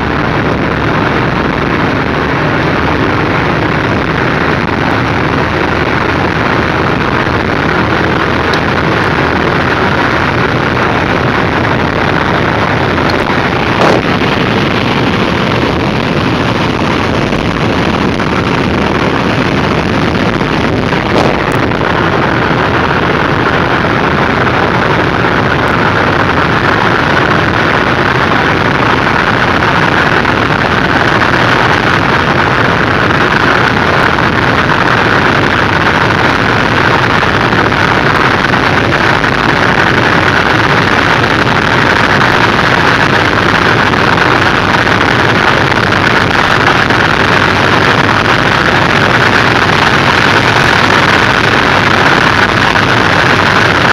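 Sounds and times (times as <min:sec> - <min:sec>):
car engine accelerating: 0:00.0 - 0:53.9
road noise: 0:00.0 - 0:53.9.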